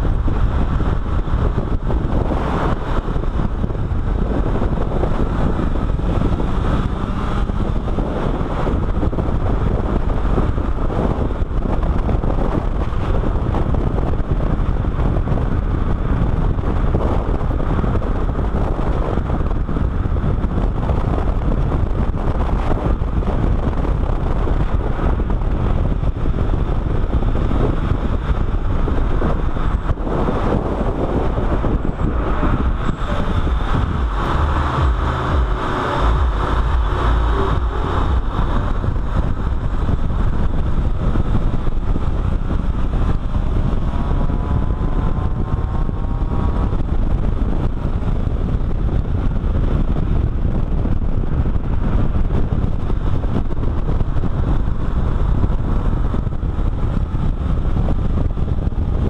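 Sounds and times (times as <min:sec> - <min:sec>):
car engine: 0:00.0 - 0:59.0
tyre and road roar: 0:00.0 - 0:59.0
wind buffeting microphone: 0:00.0 - 0:59.0.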